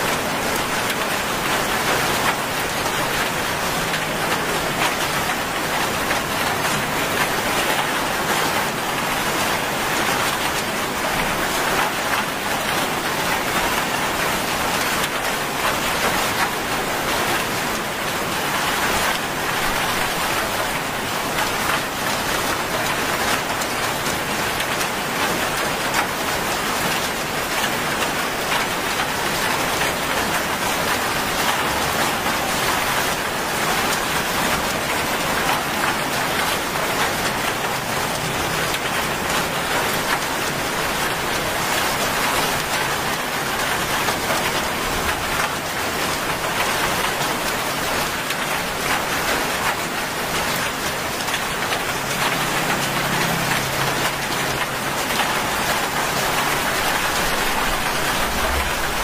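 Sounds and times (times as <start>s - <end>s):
heavy rain on road: 0.0s - 59.0s.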